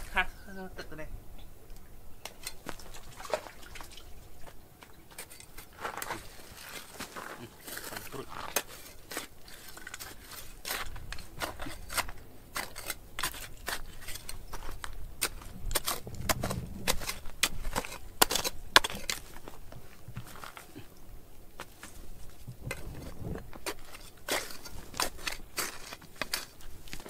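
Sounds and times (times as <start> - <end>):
hand tool scraping stony ground: 2.2 - 3.8, 4.5 - 27.0.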